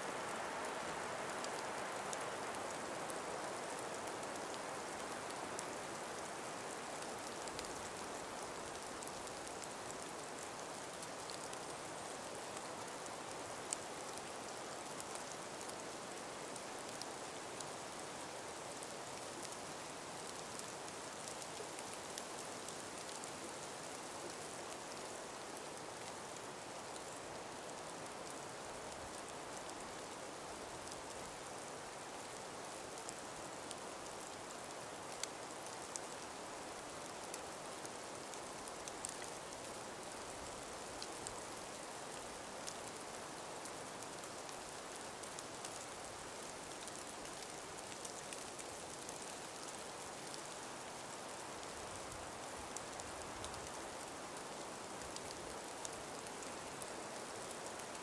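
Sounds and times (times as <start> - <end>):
breeze through snowy forest: 0.0 - 58.0
small ticks: 1.2 - 18.2, 18.8 - 58.0.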